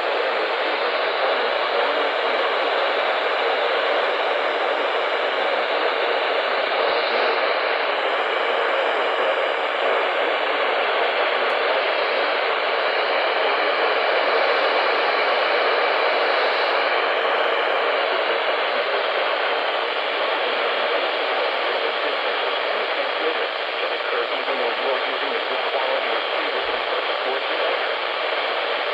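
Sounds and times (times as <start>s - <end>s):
radio static hiss: 0.0s - 28.9s.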